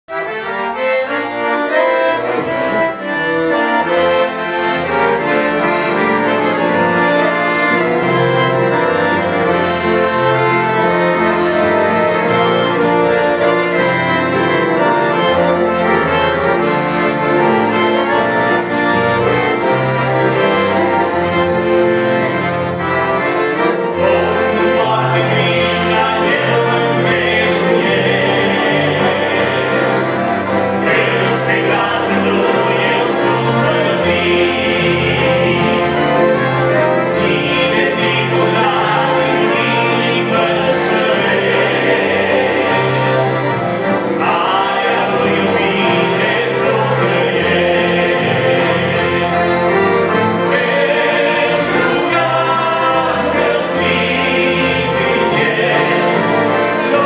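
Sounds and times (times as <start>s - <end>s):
accordions playing: 0.0s - 57.0s.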